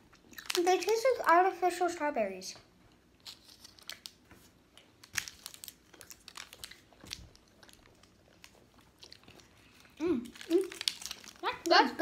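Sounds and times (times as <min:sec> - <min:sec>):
candy wrapper crinkling: 0:00.2 - 0:01.4, 0:03.1 - 0:12.0.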